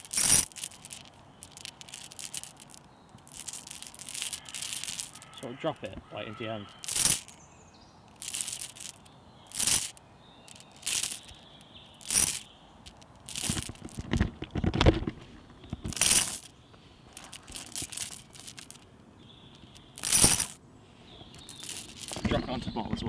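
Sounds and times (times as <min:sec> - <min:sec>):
metal chain clinking: 0:00.0 - 0:07.4, 0:08.1 - 0:14.3, 0:15.0 - 0:16.6, 0:17.2 - 0:18.9, 0:19.5 - 0:20.7, 0:21.3 - 0:22.6.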